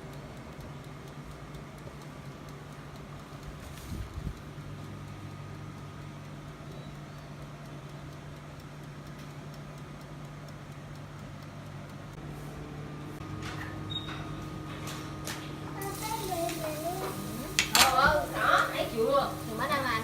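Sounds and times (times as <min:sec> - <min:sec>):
electric oven humming: 0:00.0 - 0:20.0.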